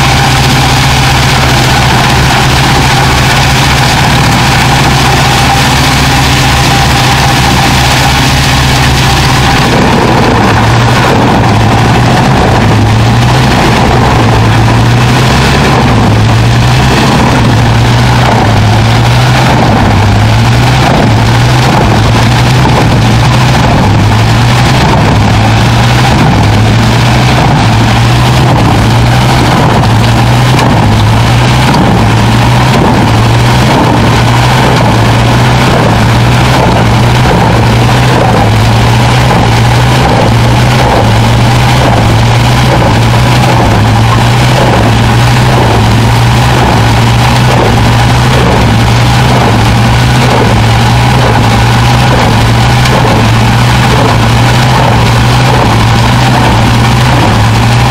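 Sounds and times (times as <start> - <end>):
wood chipper droning: 0.0 - 57.9.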